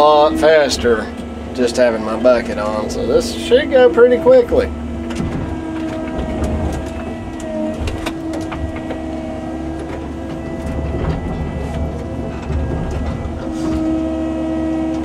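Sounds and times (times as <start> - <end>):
excavator engine rumbling: 0.0 - 15.0
hydraulic whine: 0.0 - 15.0.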